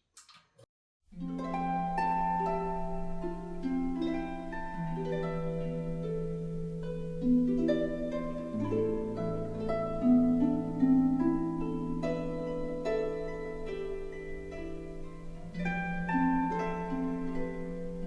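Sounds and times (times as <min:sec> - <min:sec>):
plucked harp-like notes: 0:01.2 - 0:18.0.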